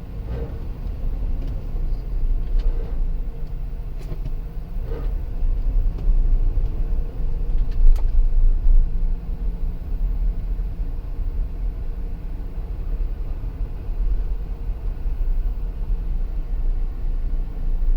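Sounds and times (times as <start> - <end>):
low grinding drivetrain rumble: 0.0 - 17.9.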